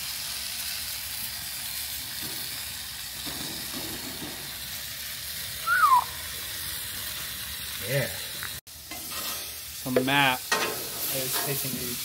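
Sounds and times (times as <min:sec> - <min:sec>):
food sizzling on a grill: 0:00.0 - 0:12.0.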